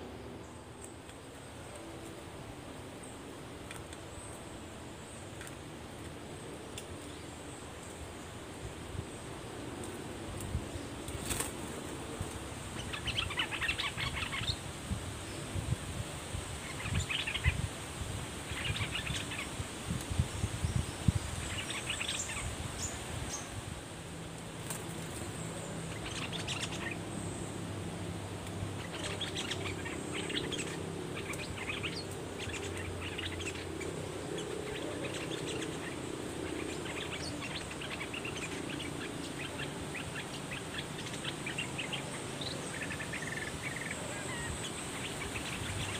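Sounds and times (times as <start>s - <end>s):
birds chattering calls: 0.0s - 23.6s, 24.6s - 45.9s.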